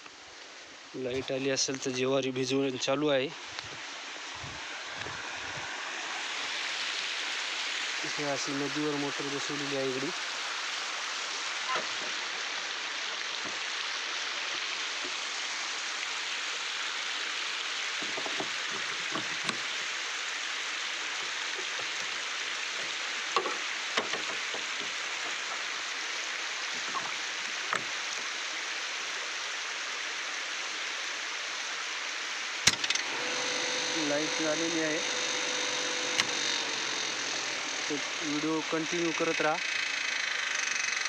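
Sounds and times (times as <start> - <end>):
river water rushing: 3.4 - 41.0.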